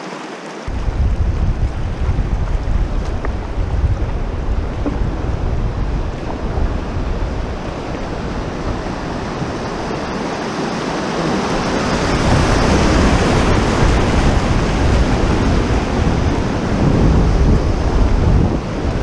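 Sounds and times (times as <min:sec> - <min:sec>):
rushing whitewater: 0:00.0 - 0:19.0.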